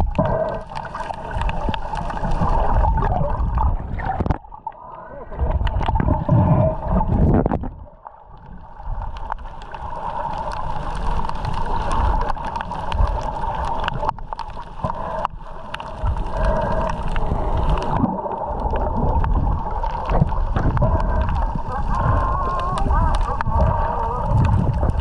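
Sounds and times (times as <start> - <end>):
underwater clicks: 0.0 - 25.0
underwater water surging over rocks: 0.0 - 25.0.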